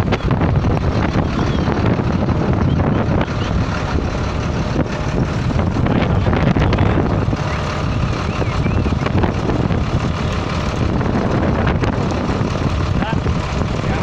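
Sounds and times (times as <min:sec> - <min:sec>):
wind blowing on microphone: 0:00.0 - 0:14.0.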